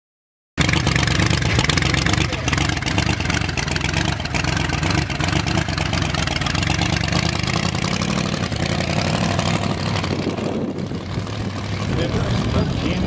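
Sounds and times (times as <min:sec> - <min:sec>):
car engine idling: 0:00.6 - 0:13.0.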